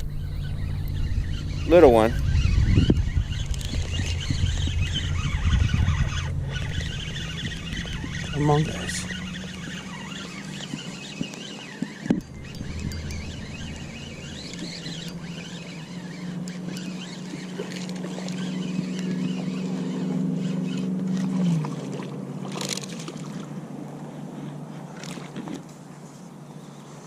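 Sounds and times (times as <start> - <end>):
birds chirping: 0.0 - 21.9
motor humming: 0.0 - 24.0.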